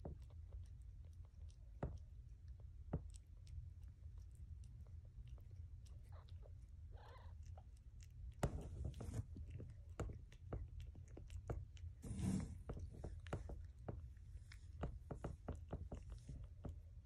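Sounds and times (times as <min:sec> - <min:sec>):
cat licking kitten: 0:00.0 - 0:17.0.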